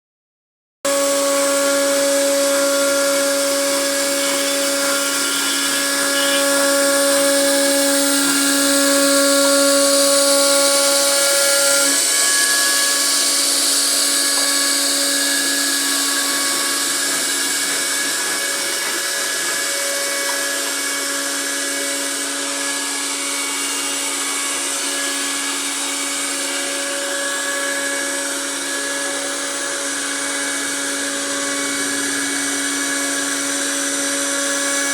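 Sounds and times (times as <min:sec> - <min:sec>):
router spindle high whine: 0:00.9 - 0:34.9.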